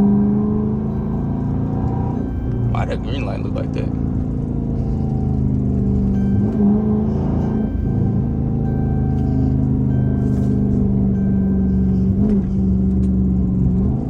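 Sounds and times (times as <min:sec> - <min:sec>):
car exhaust drone while driving: 0:00.0 - 0:14.0.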